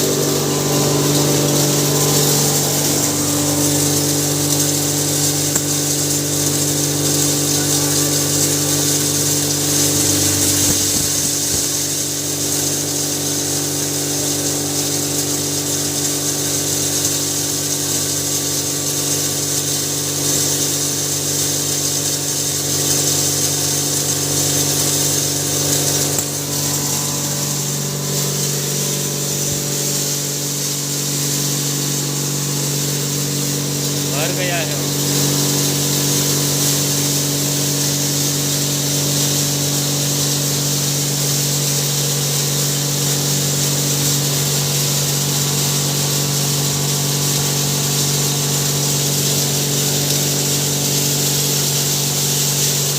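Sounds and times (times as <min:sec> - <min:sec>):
grain grinder machine humming and hissing: 0:00.0 - 0:52.9.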